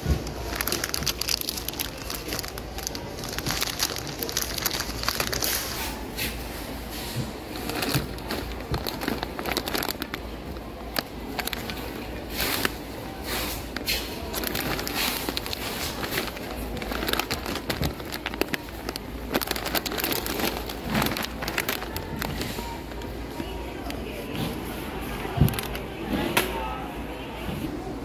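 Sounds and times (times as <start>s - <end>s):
plastic bag crinkling: 0.0s - 6.1s, 7.3s - 23.9s.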